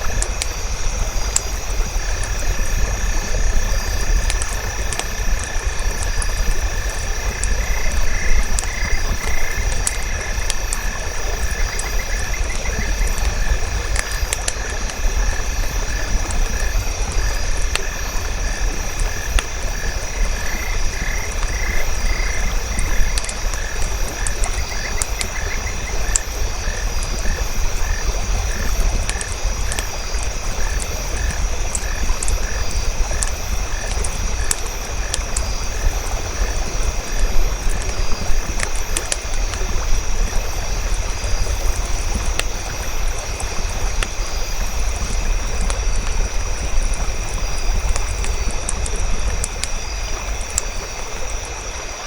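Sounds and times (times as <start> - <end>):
campfire crackling: 0.0 - 52.0
frogs calling: 0.0 - 52.0
high insect drone: 0.0 - 52.0.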